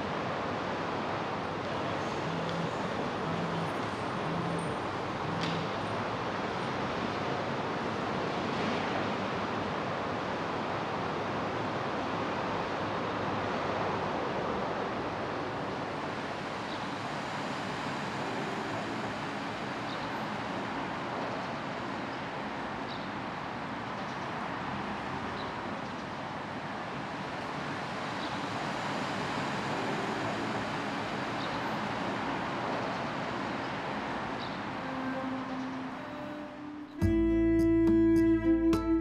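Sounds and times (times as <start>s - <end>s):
distant traffic hum: 0.0s - 39.0s.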